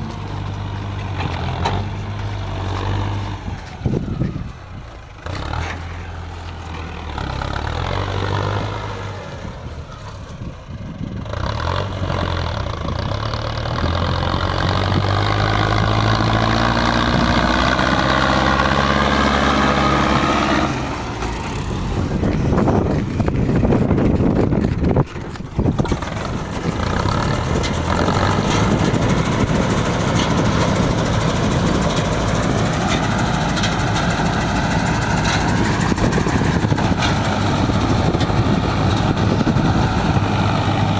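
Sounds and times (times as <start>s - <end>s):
combine harvester diesel engine running: 0.0s - 40.9s.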